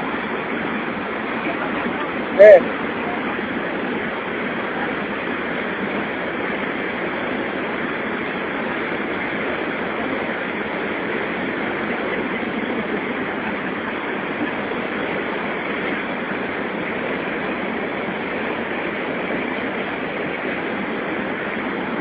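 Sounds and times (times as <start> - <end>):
water rushing through rapids: 0.0 - 22.0.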